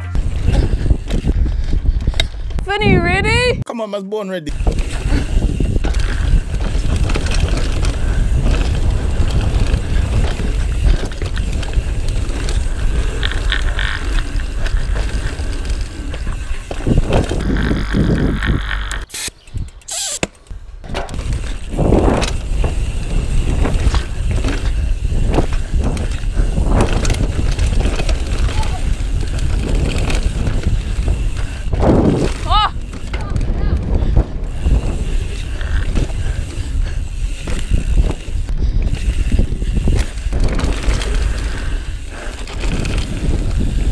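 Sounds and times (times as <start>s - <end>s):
bike rattling over bumps: 0.0s - 2.7s, 4.5s - 43.9s
wind buffeting microphone: 0.0s - 3.6s, 4.5s - 19.9s, 20.5s - 43.9s.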